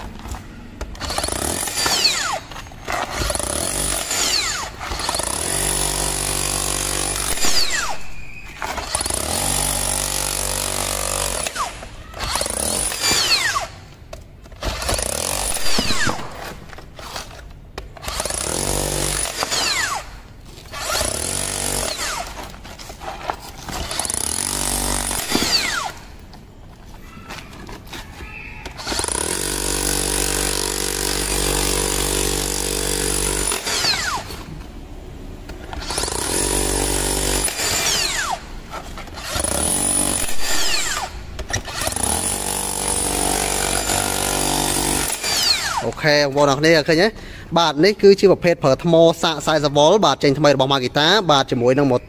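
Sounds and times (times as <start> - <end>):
rotary hammer chiselling concrete: 0.0 - 26.3, 27.6 - 34.5, 35.7 - 46.1.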